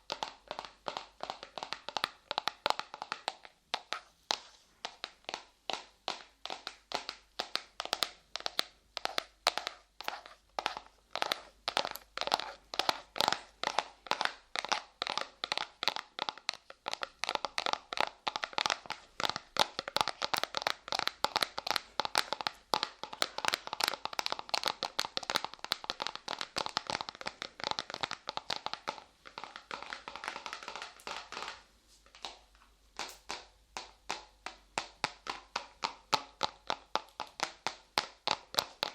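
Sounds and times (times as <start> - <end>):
sticky clay pops: 0.0 - 38.9.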